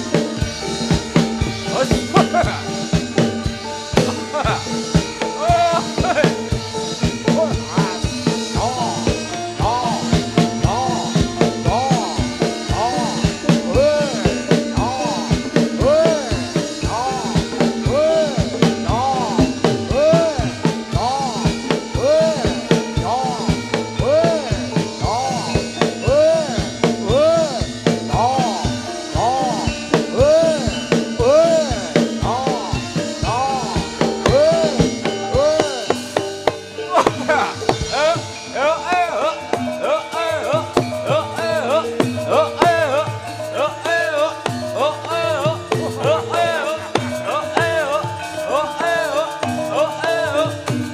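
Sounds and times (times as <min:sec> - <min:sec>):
dense drumming: 0:00.0 - 0:48.3
gamelan music: 0:00.0 - 0:50.9.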